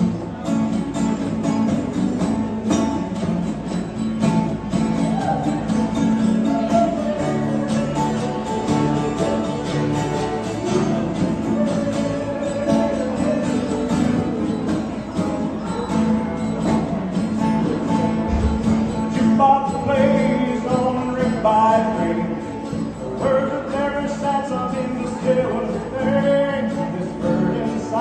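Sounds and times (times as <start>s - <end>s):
country band playing: 0.0s - 28.0s
person singing: 4.8s - 28.0s.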